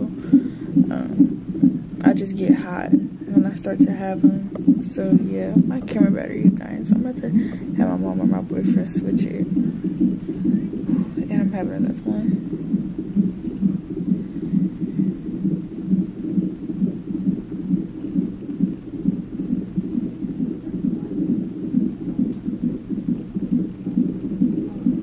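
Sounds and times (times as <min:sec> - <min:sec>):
doppler heartbeat whooshing pulse: 0:00.0 - 0:25.0.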